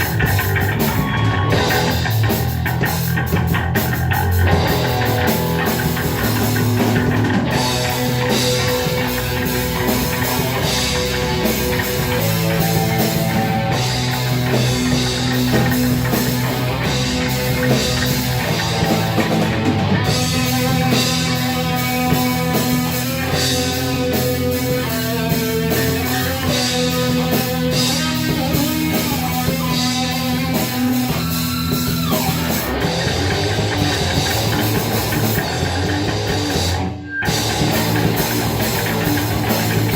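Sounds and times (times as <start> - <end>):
metal band playing: 0.0 - 39.9.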